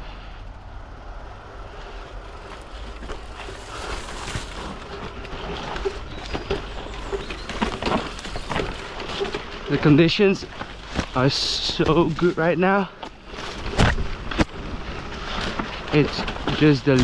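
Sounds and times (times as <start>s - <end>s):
bike tyres rolling over dirt: 0.0s - 17.0s
bike chain and frame rattling: 0.5s - 17.0s.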